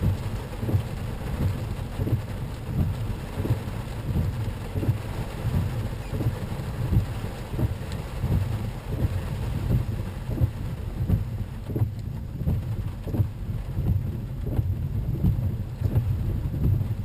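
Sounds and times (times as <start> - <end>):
soft regular thumps: 0.0 - 17.0
vehicle rumble in motion: 0.0 - 17.0.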